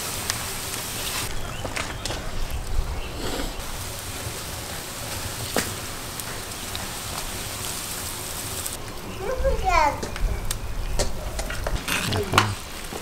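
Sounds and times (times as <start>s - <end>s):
water boiling: 0.0s - 13.0s.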